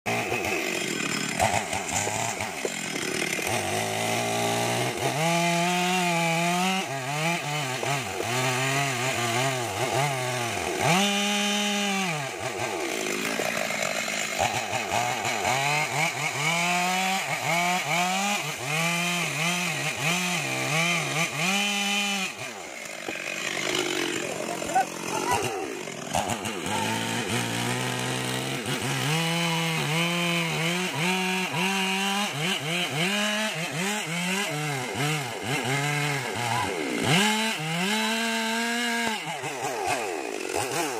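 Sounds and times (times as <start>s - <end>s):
chainsaw cutting into tree trunk: 0.1s - 40.9s.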